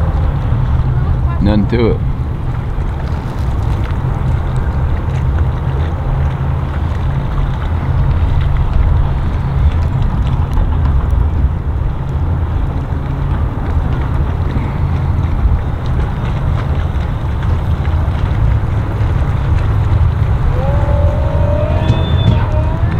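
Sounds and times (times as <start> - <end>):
outboard motors running slowly: 0.0 - 22.9
wind noise on microphone: 0.0 - 22.9.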